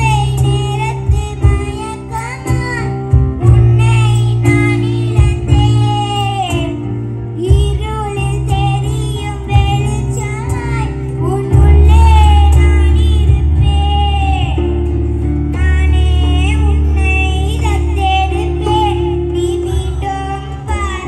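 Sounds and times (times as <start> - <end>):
acoustic guitar: 0.0 - 21.0
electronic keyboard: 0.0 - 21.0
girl singing into a microphone: 0.0 - 21.0
heavy low bass: 3.0 - 21.0.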